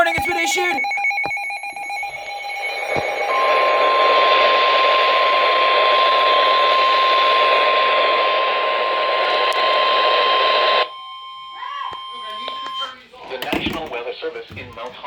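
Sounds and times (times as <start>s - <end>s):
steady alarm tone: 0.0s - 13.0s.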